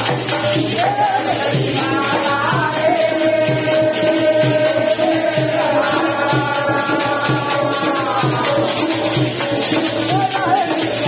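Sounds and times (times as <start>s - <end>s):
folk devotional singing: 0.0s - 11.0s
hand drum beat: 0.0s - 11.0s.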